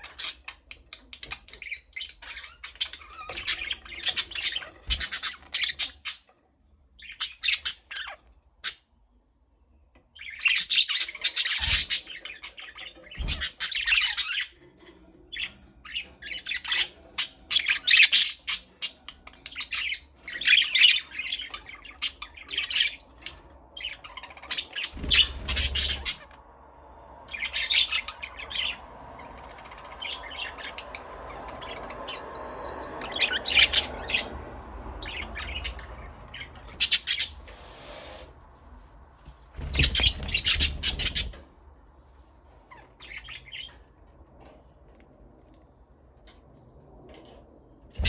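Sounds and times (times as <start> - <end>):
budgerigars chirping and squawking: 0.0 - 8.9, 10.1 - 26.4, 27.3 - 38.2, 39.6 - 41.5, 42.5 - 45.0.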